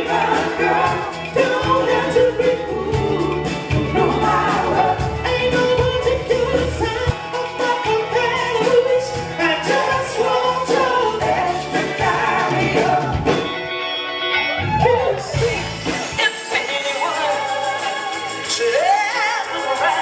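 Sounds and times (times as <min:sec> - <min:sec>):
voices singing in harmony: 0:00.0 - 0:13.7, 0:14.8 - 0:20.0
drums: 0:00.0 - 0:20.0
live soul band playing: 0:00.0 - 0:20.0.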